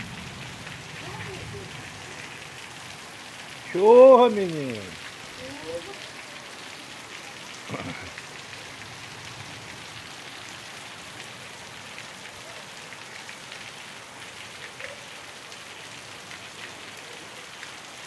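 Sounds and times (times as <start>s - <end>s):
heavy rain falling: 0.0s - 18.0s
water streaming off roof: 0.0s - 18.0s.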